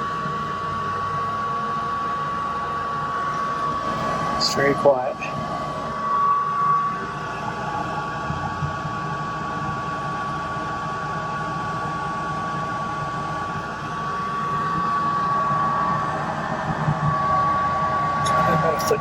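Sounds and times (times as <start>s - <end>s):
air conditioner blower rushing air: 0.0s - 19.0s.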